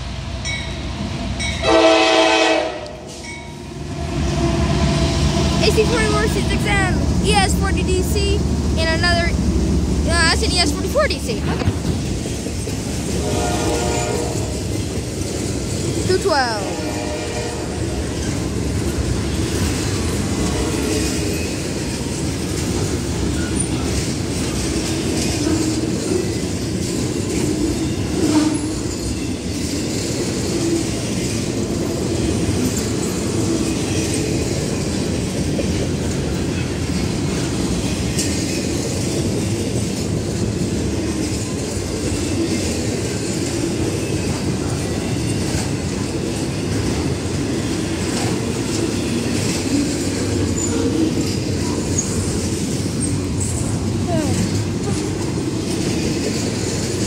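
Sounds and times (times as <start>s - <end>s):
freight cars rolling on rails: 0.0s - 57.0s.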